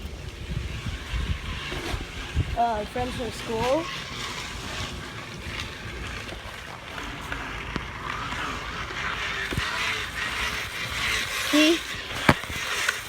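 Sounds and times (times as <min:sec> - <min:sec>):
spokes rattling plastic bottles: 0:00.0 - 0:13.0.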